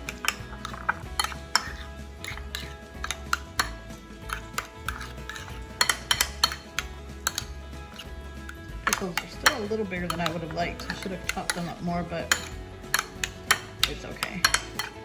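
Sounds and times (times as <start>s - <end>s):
utensil clinking against bowl: 0.0s - 15.0s.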